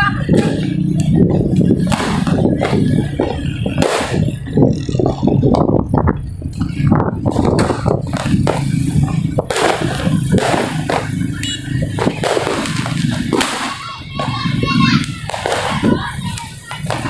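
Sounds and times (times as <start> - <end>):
firecrackers banging: 0.0 - 17.0
motorcycle engines running: 0.0 - 17.0.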